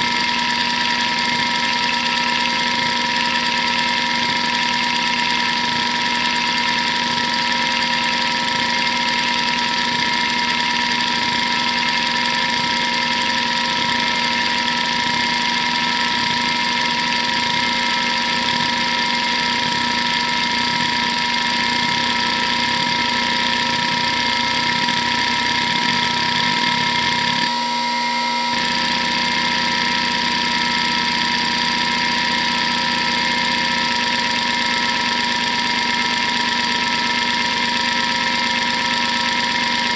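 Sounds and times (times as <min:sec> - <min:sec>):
hard drive head chatter: 0:00.0 - 0:27.5, 0:28.5 - 0:39.9
hard drive spindle whine: 0:00.0 - 0:39.9.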